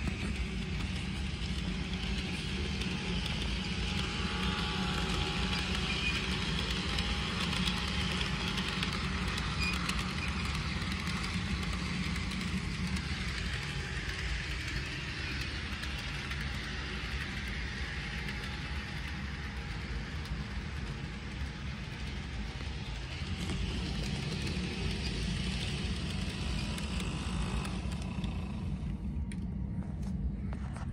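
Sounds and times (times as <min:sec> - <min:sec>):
toy train motor whirring: 0:00.0 - 0:29.1
wheels rumbling on rails: 0:00.0 - 0:30.9.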